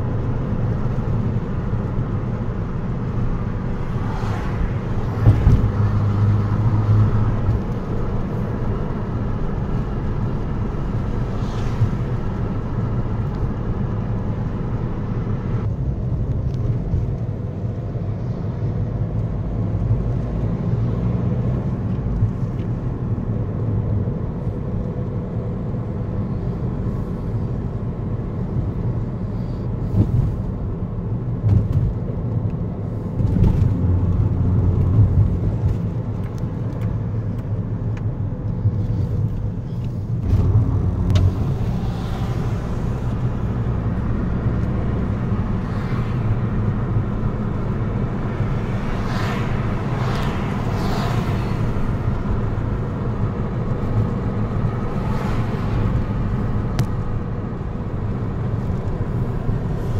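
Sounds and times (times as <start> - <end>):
engine and road rumble in car: 0.0 - 59.9.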